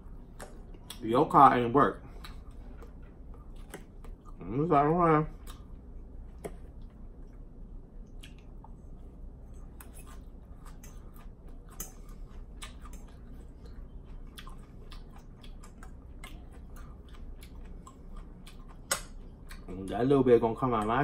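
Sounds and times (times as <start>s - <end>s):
chewing with wet mouth smacks: 0.0s - 1.1s, 2.0s - 4.5s, 5.3s - 20.0s.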